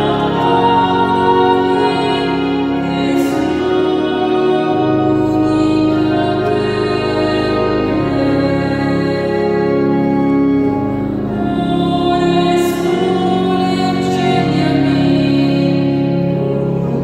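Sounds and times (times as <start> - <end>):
slow hymn singing: 0.0 - 17.0
sustained instrumental accompaniment: 0.0 - 17.0.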